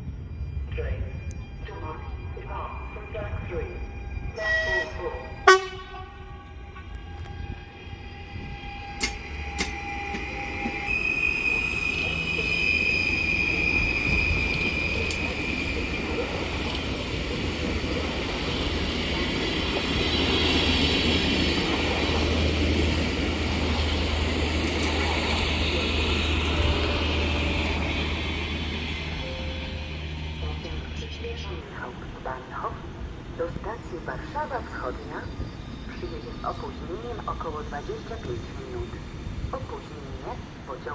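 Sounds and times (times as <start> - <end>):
high-pitched whine: 0.0 - 40.9
train rail noise: 3.8 - 40.9.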